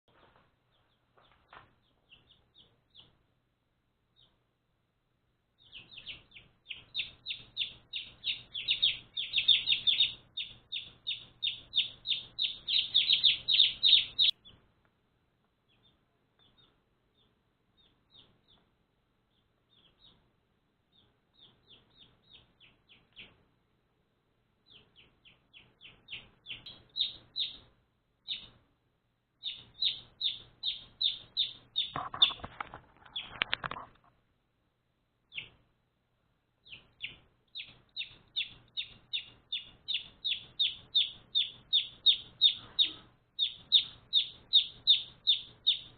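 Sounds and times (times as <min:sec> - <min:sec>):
baby chicks peeping: 0:00.1 - 0:03.3, 0:04.1 - 0:04.5, 0:05.6 - 0:14.7, 0:15.6 - 0:23.6, 0:24.6 - 0:28.8, 0:29.4 - 0:34.2, 0:35.2 - 0:35.7, 0:36.6 - 0:45.9.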